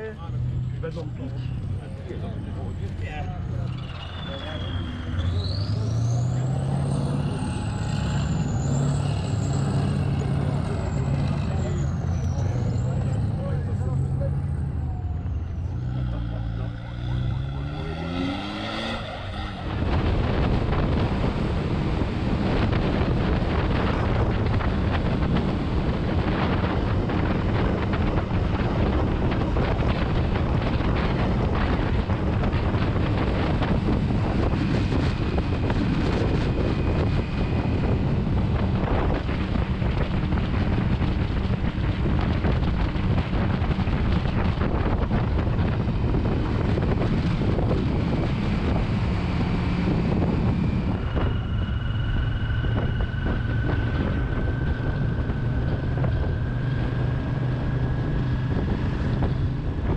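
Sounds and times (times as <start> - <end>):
wind noise on microphone: 1.2 - 59.9.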